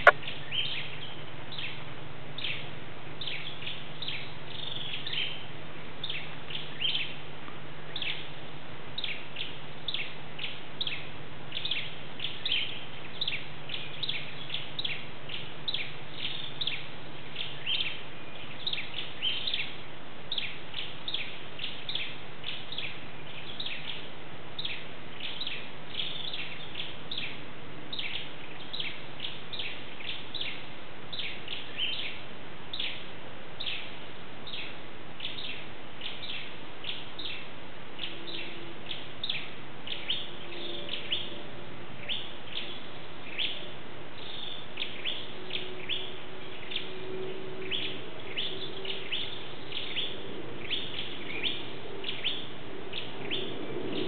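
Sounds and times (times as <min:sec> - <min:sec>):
bird chirping: 0:00.0 - 0:01.8, 0:02.4 - 0:07.2, 0:07.8 - 0:54.0.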